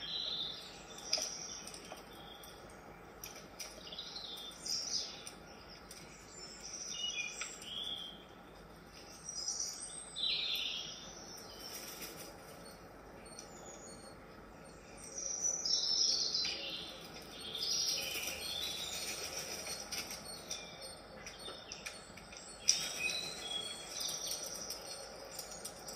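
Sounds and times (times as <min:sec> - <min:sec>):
birdsong from a speaker: 0:00.0 - 0:25.9.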